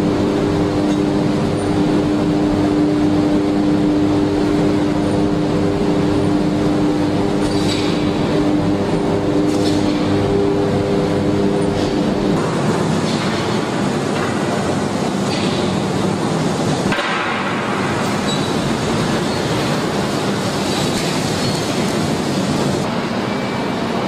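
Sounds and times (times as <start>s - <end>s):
machinery engine drone: 0.0s - 24.0s.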